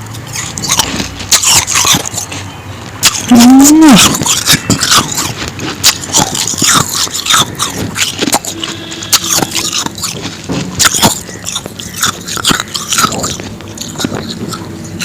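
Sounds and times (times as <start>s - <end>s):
chewing crunchy ice: 0.0s - 15.0s.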